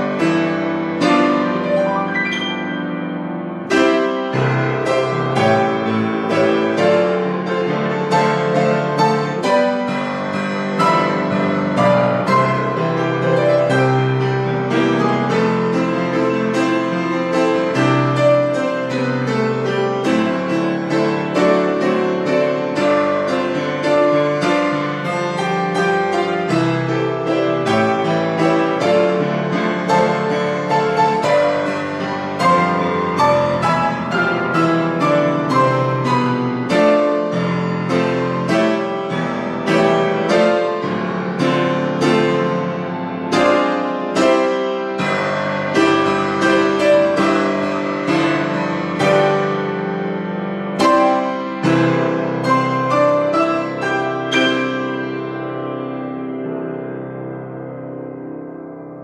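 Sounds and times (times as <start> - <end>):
grand piano playing hymn: 0.0 - 59.0.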